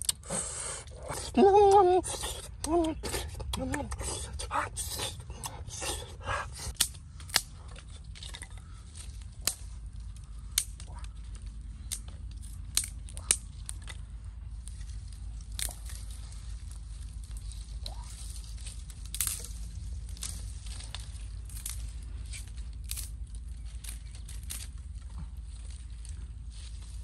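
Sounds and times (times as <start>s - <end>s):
sticks snapping: 0.0s - 0.3s, 1.1s - 26.1s
steady low rumble: 0.0s - 27.0s.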